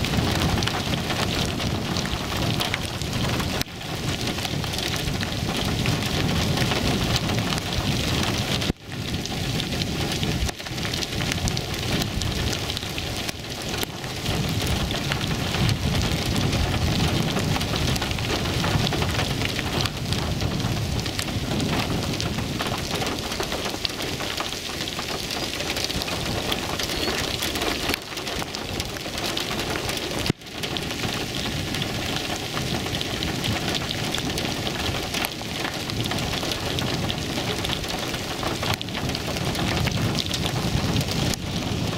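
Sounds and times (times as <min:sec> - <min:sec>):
low thunder rumble: 0:00.0 - 0:41.9
steady rain: 0:00.0 - 0:41.9.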